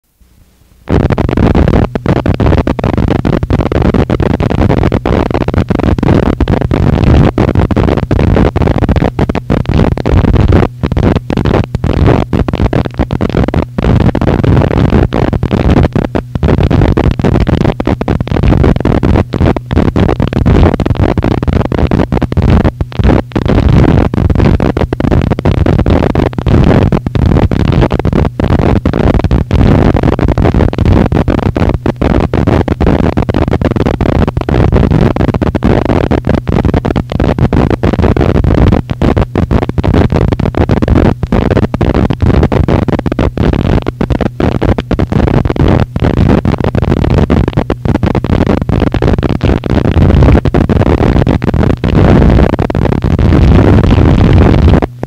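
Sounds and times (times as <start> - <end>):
loud distorted noise wall: 0.0 - 55.0.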